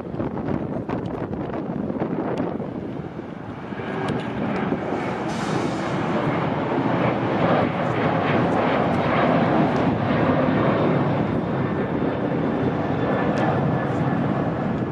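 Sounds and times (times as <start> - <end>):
jet engines rushing: 0.0 - 14.9.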